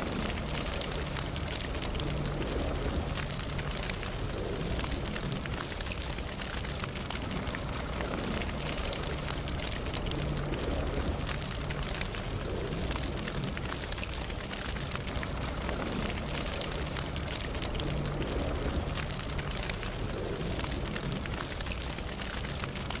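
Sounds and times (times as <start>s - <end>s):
low rumble: 0.0s - 6.2s, 7.1s - 21.7s
wood crackling: 0.0s - 23.0s.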